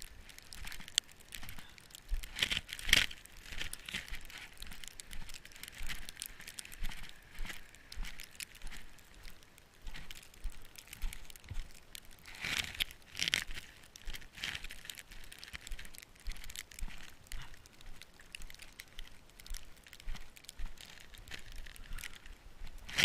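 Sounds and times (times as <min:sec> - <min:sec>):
snow crunching: 0:00.0 - 0:23.0.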